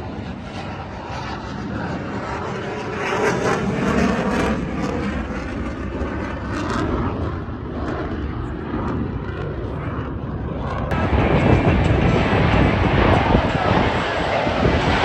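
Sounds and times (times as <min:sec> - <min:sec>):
airplane engine roar: 0:00.0 - 0:15.0.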